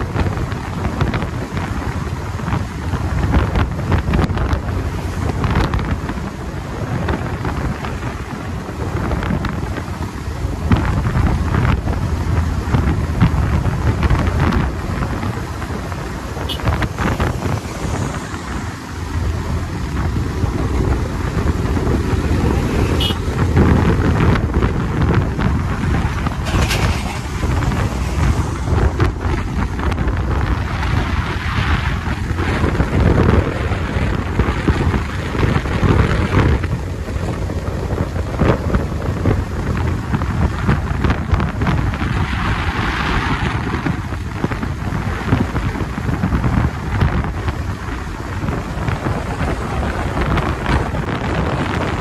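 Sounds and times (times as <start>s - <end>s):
motorcycle engine running: 0.0s - 42.0s
wind buffeting microphone: 0.0s - 52.0s.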